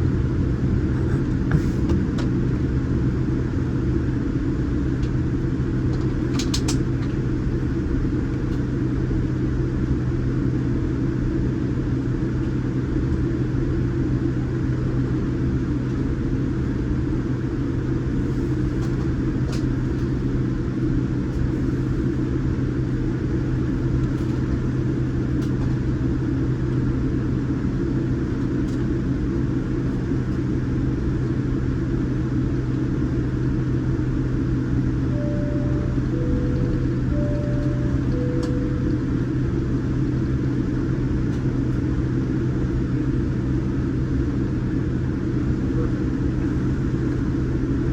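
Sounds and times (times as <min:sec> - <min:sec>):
aircraft cabin engine drone: 0:00.0 - 0:47.9.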